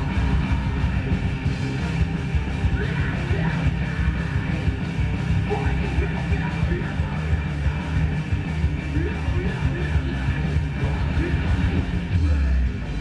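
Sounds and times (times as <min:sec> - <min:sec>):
loud rock music: 0:00.0 - 0:13.0
yelled vocals: 0:00.0 - 0:13.0.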